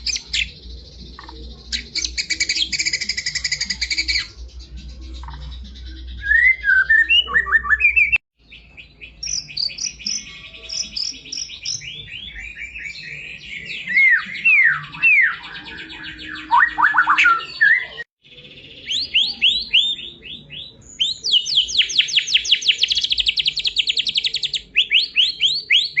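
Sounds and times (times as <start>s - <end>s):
bird singing whistles and trills: 0.0s - 26.0s.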